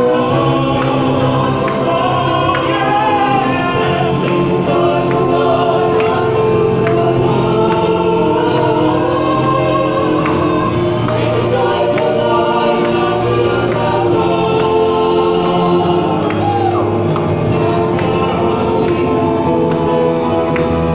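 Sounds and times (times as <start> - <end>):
choir singing a hymn: 0.0 - 20.9.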